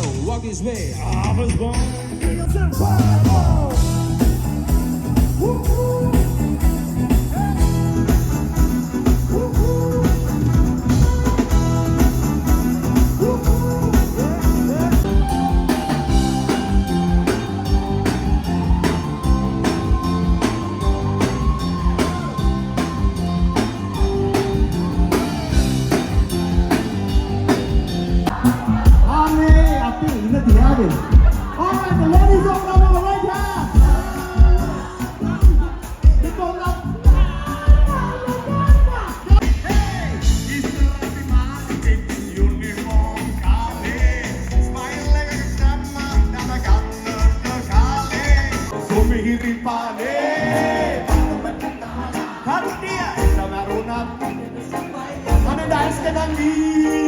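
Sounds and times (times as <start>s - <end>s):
live rock band: 0.0s - 57.0s.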